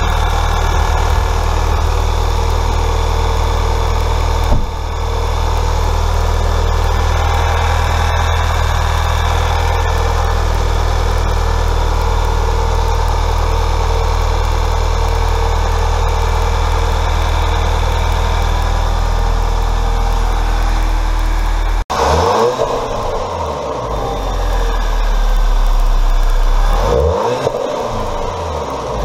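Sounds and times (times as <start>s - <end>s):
car engine idling: 0.0s - 29.0s
engine revving: 0.0s - 29.0s.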